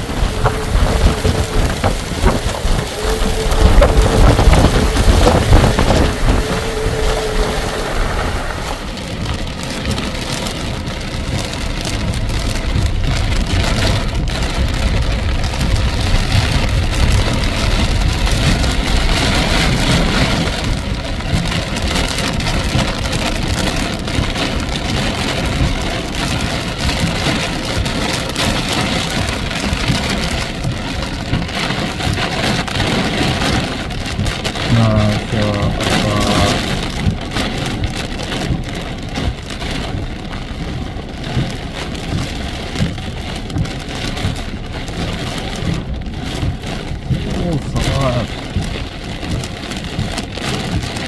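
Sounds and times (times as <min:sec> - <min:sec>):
deep rumble: 0:00.0 - 0:51.0
heavy rainstorm: 0:00.0 - 0:51.0.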